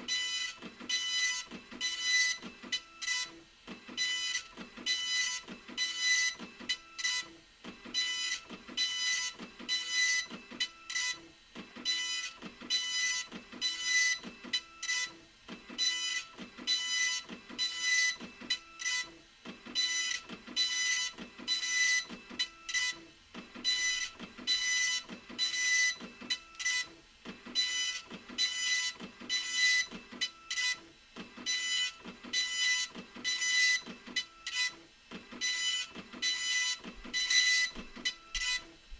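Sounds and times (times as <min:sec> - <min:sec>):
dot-matrix printer printing: 0:00.0 - 0:38.9.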